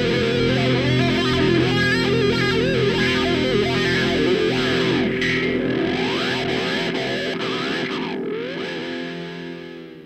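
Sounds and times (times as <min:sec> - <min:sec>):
distorted guitar music: 0:00.0 - 0:10.0.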